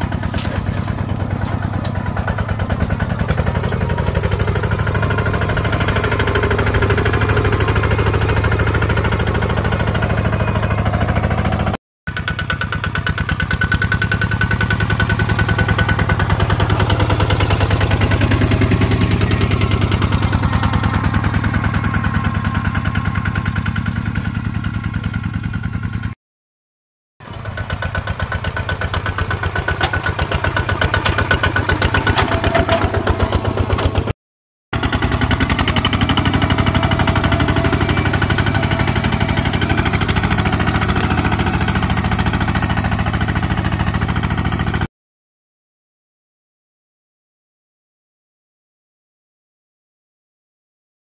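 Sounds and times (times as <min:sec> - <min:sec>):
walking tractor diesel engine: 0:00.0 - 0:26.2, 0:27.2 - 0:34.2, 0:34.8 - 0:44.9.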